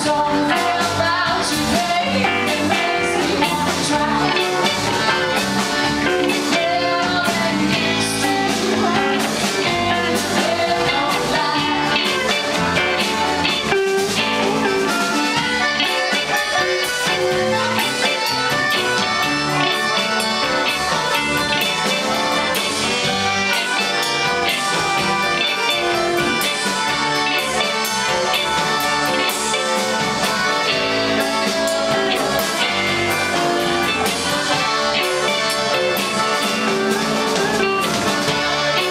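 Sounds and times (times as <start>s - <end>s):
live blues band playing: 0.0s - 38.9s.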